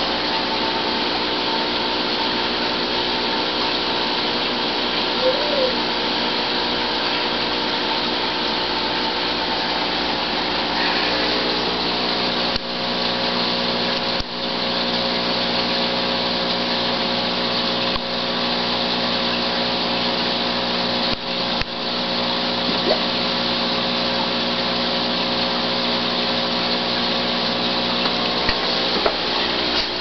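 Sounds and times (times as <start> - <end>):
aquarium pump humming: 0.0 - 30.0.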